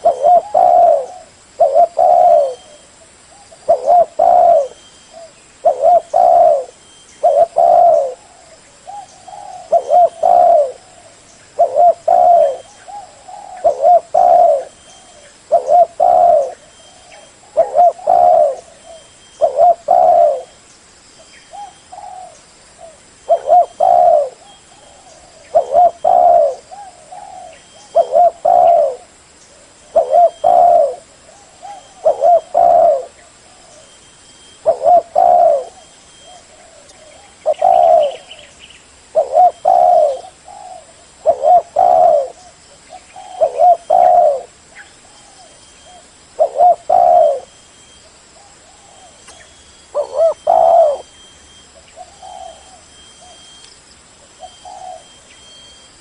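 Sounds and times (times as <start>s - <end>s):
dove cooing: 0.0s - 20.6s, 21.5s - 38.5s, 39.1s - 53.6s, 54.3s - 55.8s.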